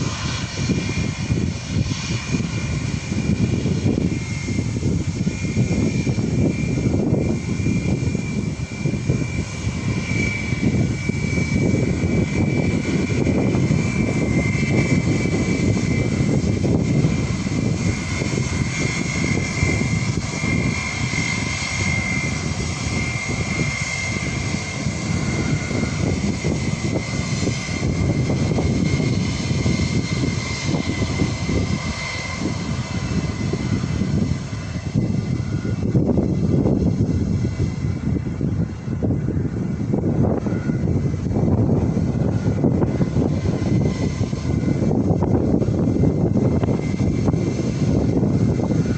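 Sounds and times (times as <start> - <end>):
jet engines rumbling and whining: 0.0 - 48.9.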